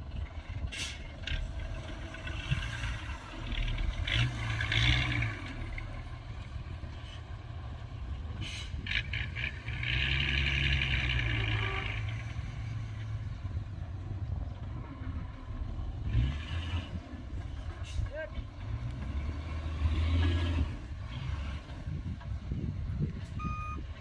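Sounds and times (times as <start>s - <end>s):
heavy diesel engine under load: 0.0s - 24.0s.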